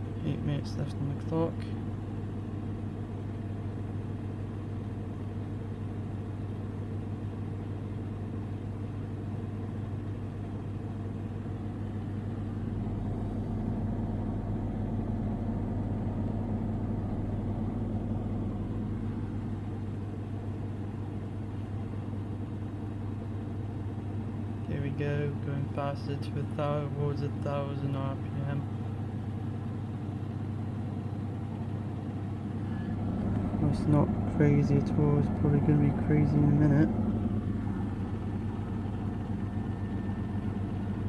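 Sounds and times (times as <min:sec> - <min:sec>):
washing machine spinning hum: 0:00.0 - 0:41.0.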